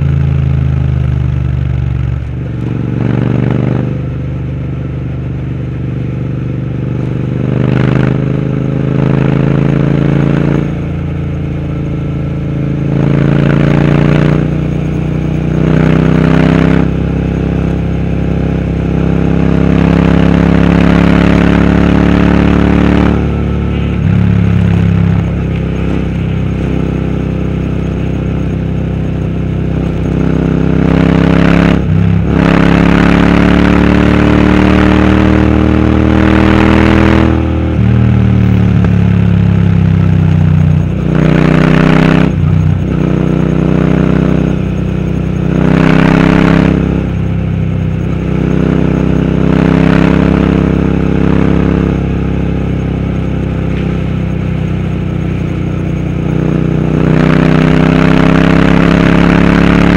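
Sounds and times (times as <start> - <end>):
motorcycle engine exhaust note: 0.0 - 59.9.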